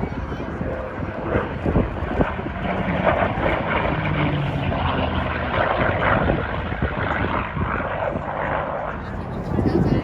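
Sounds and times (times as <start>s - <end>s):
propeller aircraft engine humming: 0.0s - 10.0s.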